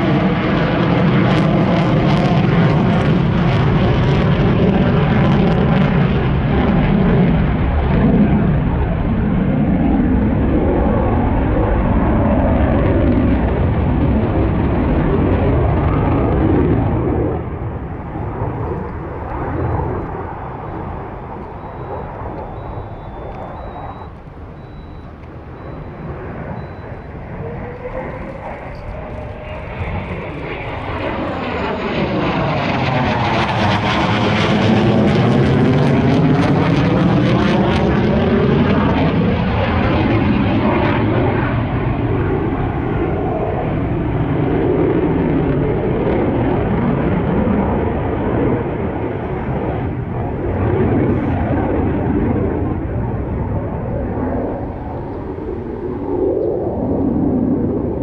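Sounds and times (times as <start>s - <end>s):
jet aircraft flying past: 0.0s - 58.0s.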